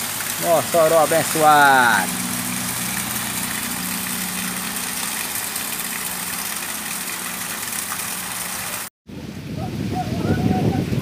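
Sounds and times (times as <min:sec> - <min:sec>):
heavy rain hissing: 0:00.0 - 0:08.9
low engine hum: 0:00.0 - 0:08.9
water pouring from gutter spout: 0:00.0 - 0:08.9
wind: 0:00.0 - 0:11.0.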